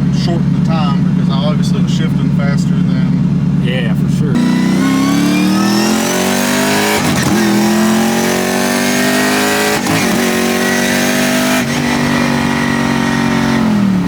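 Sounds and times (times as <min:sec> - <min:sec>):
car engine accelerating through gears: 0:00.0 - 0:14.0.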